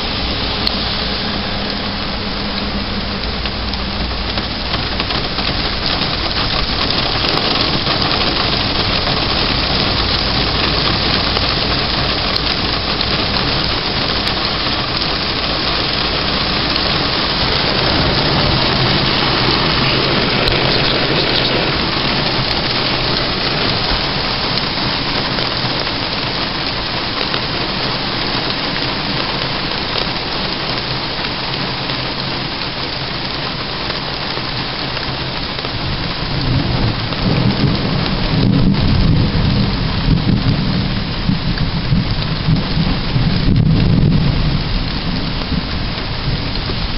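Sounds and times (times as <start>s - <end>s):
heavy rain pouring: 0.0s - 46.9s
low rumble of thunder: 0.0s - 46.9s.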